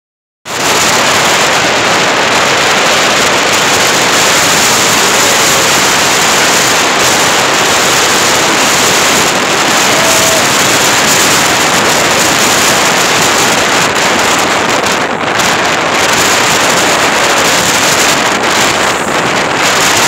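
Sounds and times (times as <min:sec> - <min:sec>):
jet boat rushing at speed: 0:00.5 - 0:20.0.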